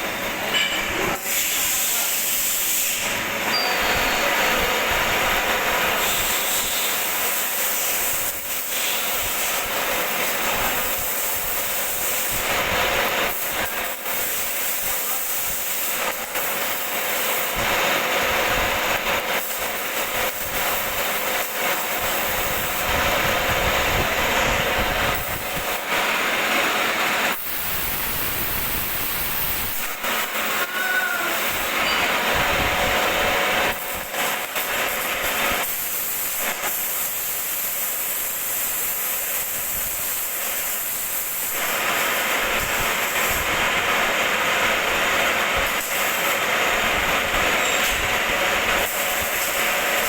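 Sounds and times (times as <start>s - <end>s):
metal lathe machining: 0.0s - 50.0s.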